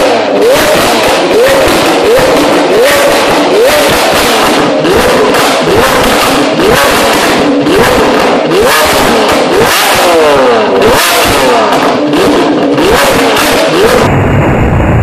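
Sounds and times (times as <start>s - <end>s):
sports car engine revving: 0.0s - 14.8s.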